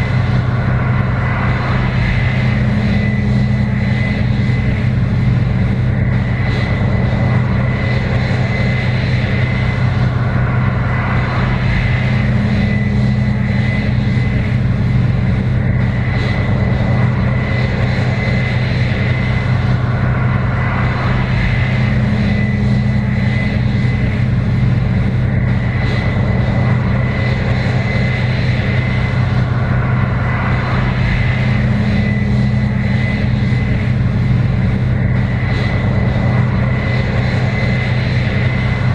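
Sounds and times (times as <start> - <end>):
combine engine drone: 0.0 - 38.9
high machinery whine: 0.0 - 38.9.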